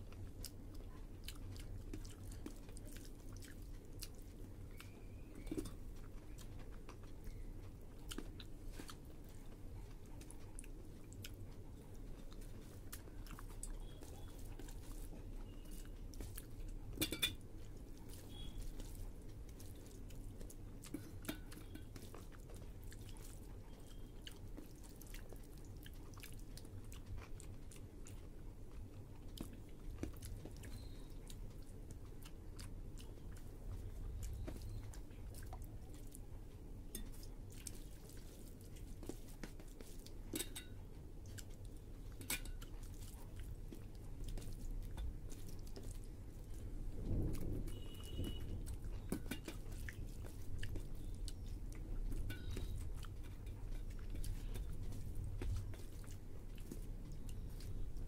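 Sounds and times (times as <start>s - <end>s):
chewing: 0.0s - 58.0s.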